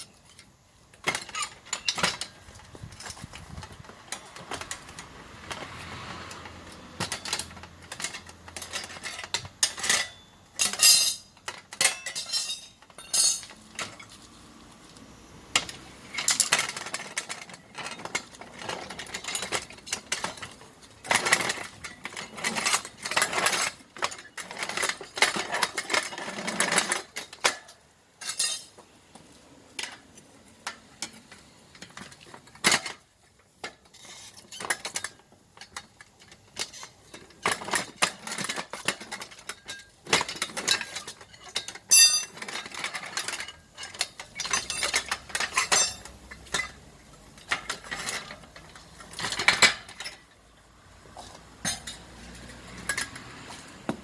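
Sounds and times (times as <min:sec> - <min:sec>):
metal tools clanking on wheel rim: 0:00.0 - 0:54.0.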